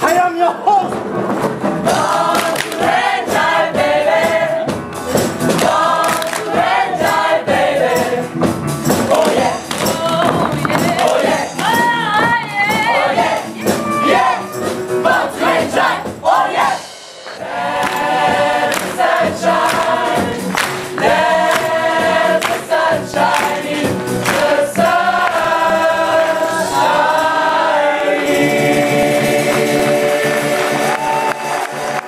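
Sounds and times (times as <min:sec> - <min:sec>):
band playing: 0:00.0 - 0:32.0.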